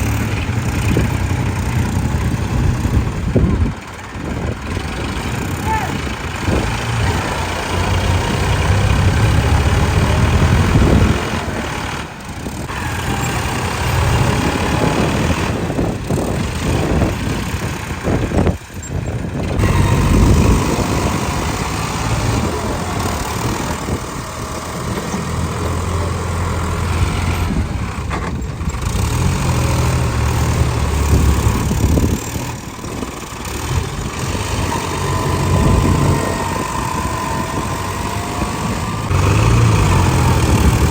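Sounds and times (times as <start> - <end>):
tractor diesel engines revving: 0.0 - 40.9.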